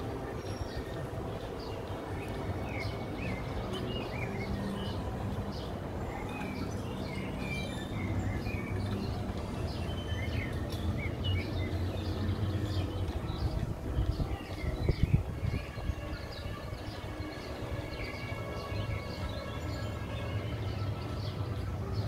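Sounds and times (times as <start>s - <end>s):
fairground ride humming: 0.0s - 22.0s.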